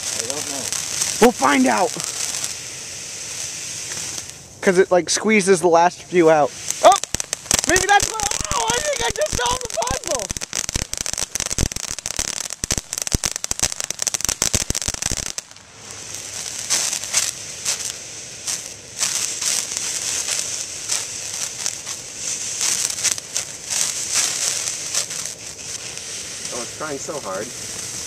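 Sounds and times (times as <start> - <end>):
firework crackling and popping: 0.0 - 28.0
firework sparks hissing: 0.0 - 28.0.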